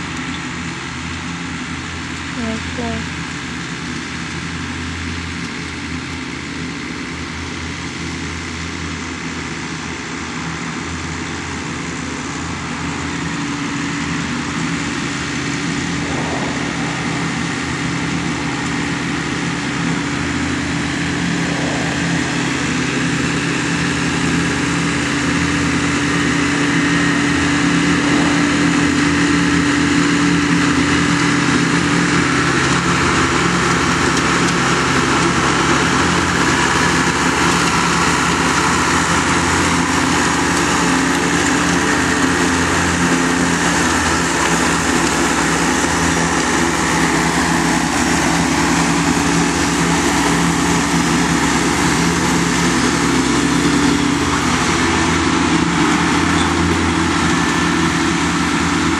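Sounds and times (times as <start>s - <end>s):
mower engine running: 0.0s - 58.9s.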